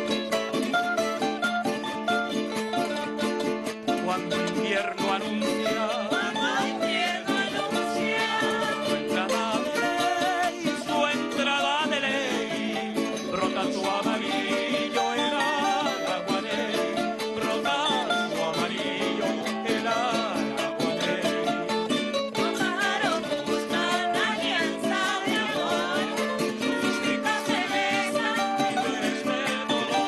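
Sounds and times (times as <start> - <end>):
strummed and plucked strings: 0.0 - 30.0
mixed chorus singing folk song: 3.4 - 30.0.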